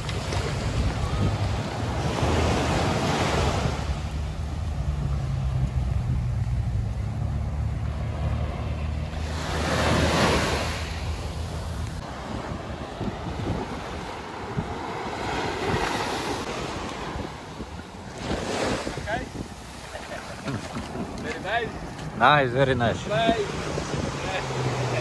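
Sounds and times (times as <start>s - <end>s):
small waves washing on shore: 0.0s - 25.0s.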